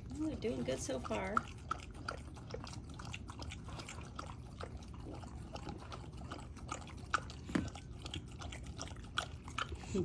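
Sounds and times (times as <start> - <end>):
dogs licking and lapping: 0.0 - 10.0.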